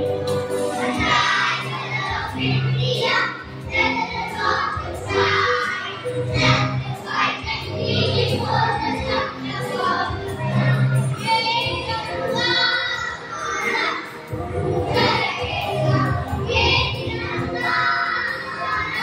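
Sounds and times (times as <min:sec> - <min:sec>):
musical accompaniment: 0:00.0 - 0:19.0
children singing together: 0:00.1 - 0:19.0.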